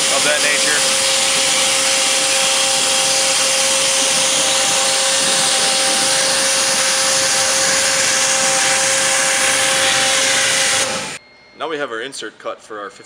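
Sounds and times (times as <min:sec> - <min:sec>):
waterjet cutter hissing: 0:00.0 - 0:11.2.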